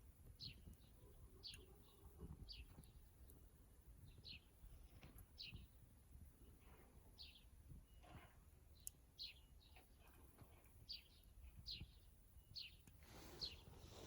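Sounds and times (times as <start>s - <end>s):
small bird chirping: 0.3s - 5.8s, 6.4s - 14.0s.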